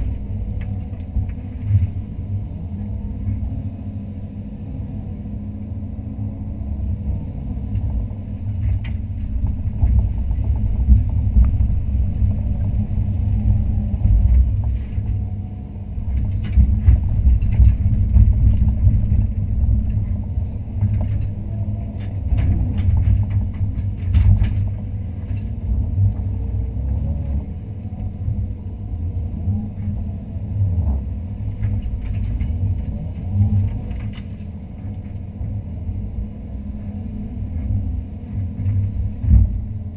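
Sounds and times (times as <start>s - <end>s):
excavator engine rumbling: 0.0s - 39.9s.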